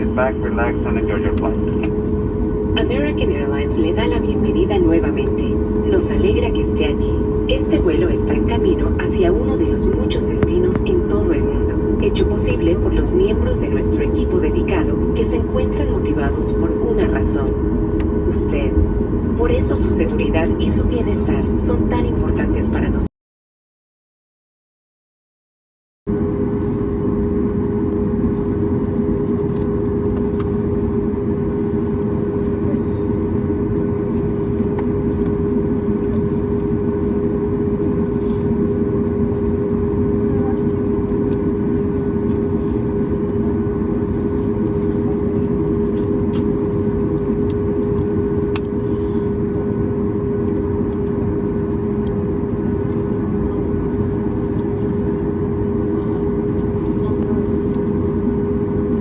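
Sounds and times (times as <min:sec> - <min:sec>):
jet engine hum: 0:00.0 - 0:23.1, 0:26.1 - 0:59.0.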